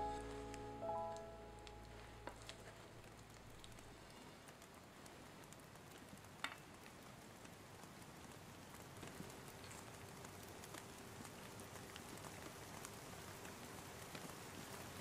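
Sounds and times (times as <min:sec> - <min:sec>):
faint crackling hiss: 0:00.0 - 0:15.0
small ticks: 0:00.2 - 0:15.0.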